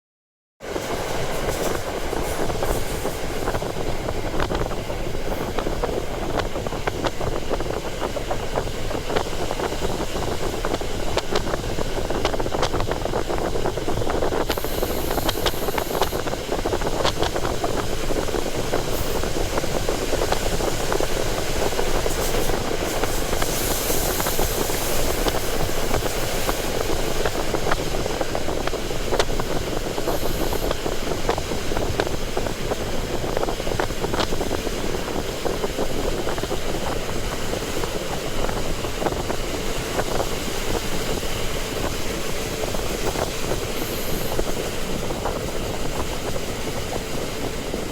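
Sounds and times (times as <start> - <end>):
railcar running noise: 0.6 - 47.9.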